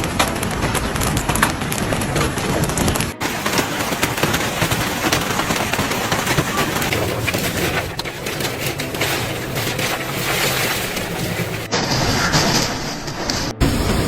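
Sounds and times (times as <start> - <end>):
hail clattering: 0.0 - 14.0.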